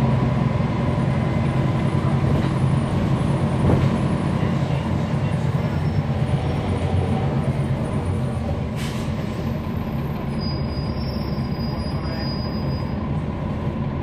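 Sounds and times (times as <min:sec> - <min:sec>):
bus diesel engine running: 0:00.0 - 0:14.0.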